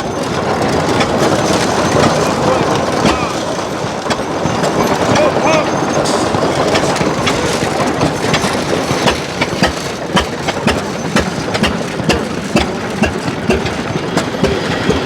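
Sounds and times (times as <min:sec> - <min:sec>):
machinery clicks and knocks: 0:00.0 - 0:15.0
old machinery running: 0:00.0 - 0:15.0.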